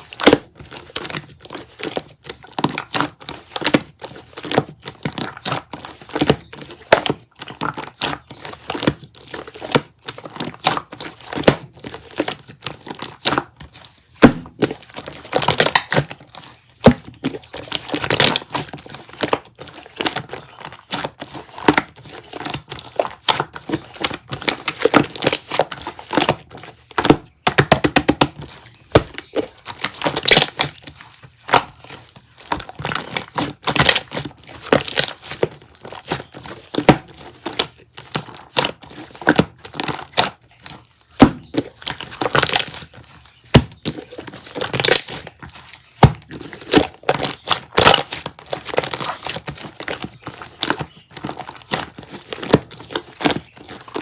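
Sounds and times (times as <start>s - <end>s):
crinkling and crackling: 0.0s - 54.0s.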